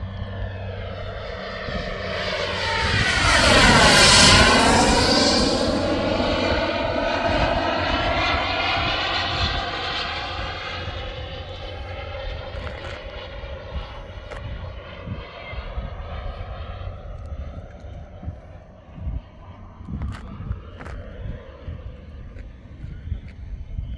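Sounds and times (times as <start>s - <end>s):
jet turbine engine whining: 0.0s - 23.9s.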